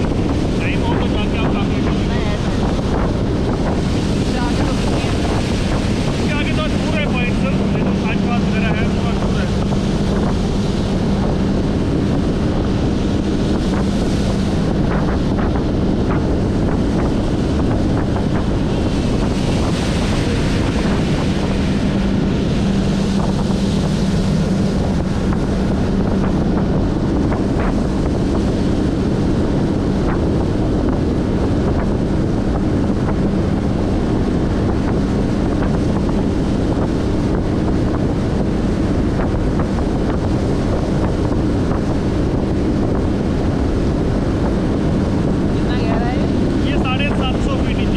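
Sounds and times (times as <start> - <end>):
boat engine hum: 0.0 - 47.9
water rushing along hull: 0.0 - 47.9
wind buffeting microphone: 0.0 - 47.9.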